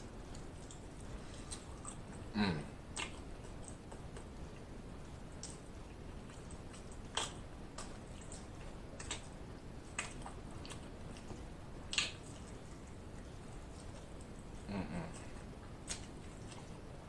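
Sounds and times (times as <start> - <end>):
low steady hiss: 0.0 - 17.0
wet chewing and lip-smacking: 0.0 - 17.0.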